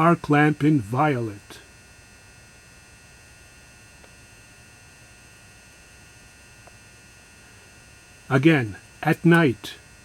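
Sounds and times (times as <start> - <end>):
lamp ballast electrical hum: 0.0 - 10.0.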